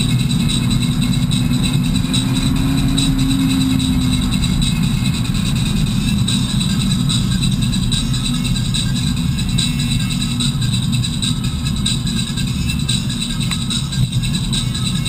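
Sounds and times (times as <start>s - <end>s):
car engine and road rumble: 0.0s - 15.0s
low drone: 0.0s - 15.0s.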